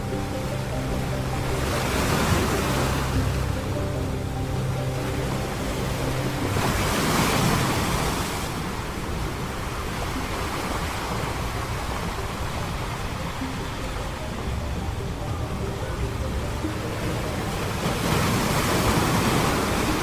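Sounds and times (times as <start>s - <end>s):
ocean waves breaking on beach: 0.0s - 20.0s
soft music notes: 0.0s - 20.0s.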